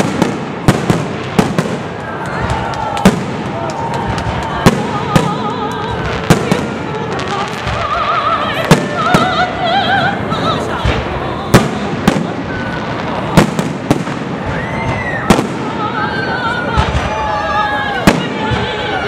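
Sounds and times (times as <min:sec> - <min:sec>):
fireworks bursting in sharp bangs: 0:00.0 - 0:19.0.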